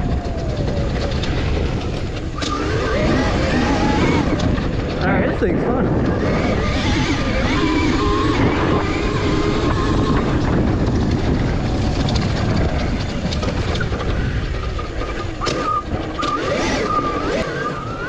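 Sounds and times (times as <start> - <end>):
electric motor whine: 0.0 - 18.0
rumble of wind and tyres: 0.0 - 18.0.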